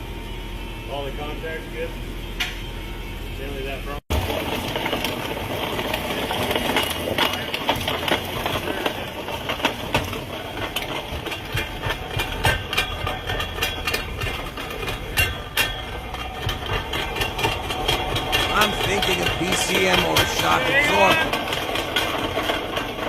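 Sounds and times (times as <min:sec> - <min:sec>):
car grinding clicks and scrapes: 0:04.1 - 0:23.0.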